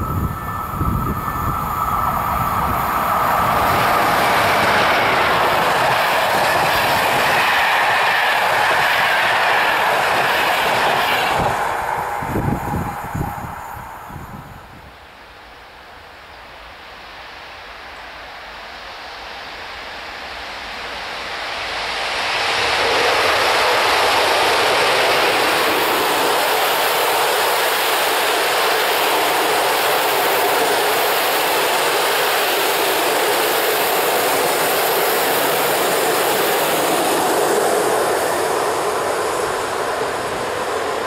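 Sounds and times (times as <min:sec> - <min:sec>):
train wheels rushing on rails: 0:00.0 - 0:41.0.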